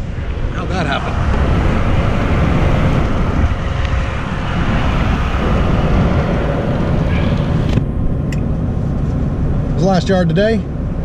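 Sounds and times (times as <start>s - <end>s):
road noise: 0.0s - 11.0s
wind noise: 0.0s - 11.0s.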